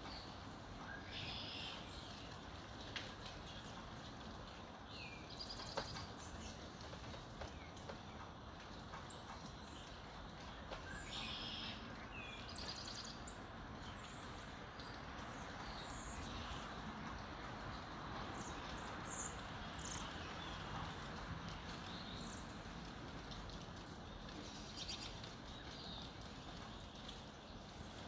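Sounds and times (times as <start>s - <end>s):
outdoor ambience hiss: 0.0s - 28.0s
songbirds chirping and trilling: 0.0s - 28.0s.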